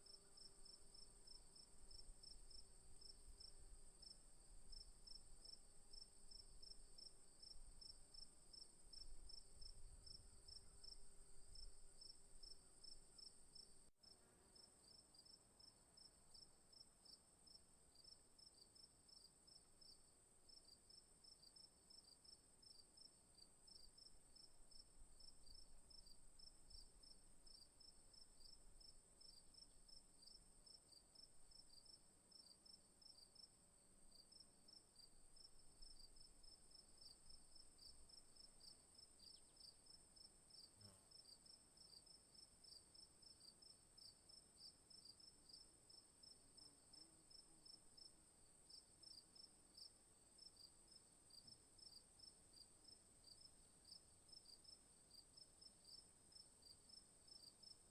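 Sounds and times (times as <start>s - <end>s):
crickets chirping: 0.0s - 13.9s, 17.5s - 57.9s.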